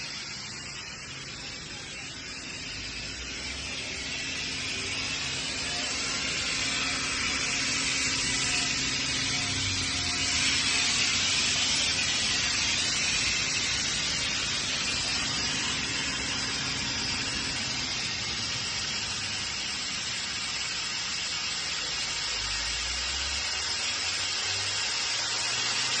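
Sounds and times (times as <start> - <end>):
air compressor hiss: 0.0 - 26.0.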